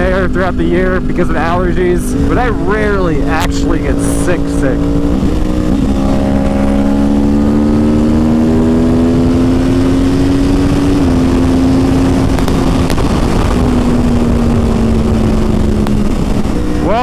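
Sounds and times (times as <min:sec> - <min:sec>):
motorcycle engine at speed: 0:00.0 - 0:17.0
wind rush: 0:00.0 - 0:17.0.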